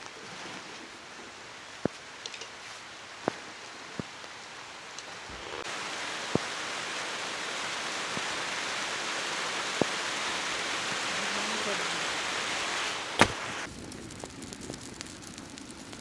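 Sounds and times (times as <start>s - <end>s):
burning wood crackling: 0.0s - 16.0s
fire hissing: 0.2s - 16.0s.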